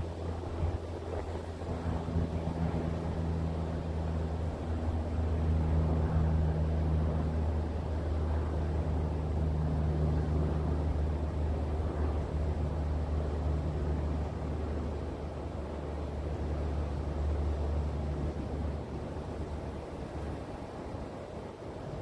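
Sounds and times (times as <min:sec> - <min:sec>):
low motor drone: 0:00.0 - 0:22.0.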